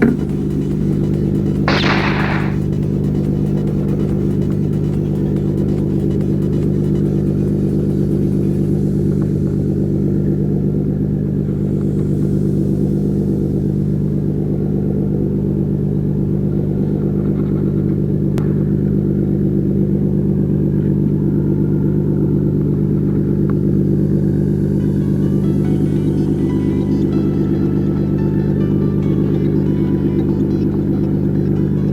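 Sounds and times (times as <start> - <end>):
engine humming steadily: 0.0 - 31.9.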